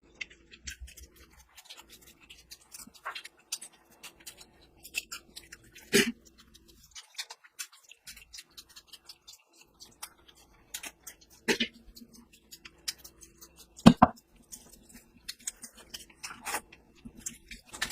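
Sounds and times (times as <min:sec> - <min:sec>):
chewing and food handling clicks: 0:00.0 - 0:17.9.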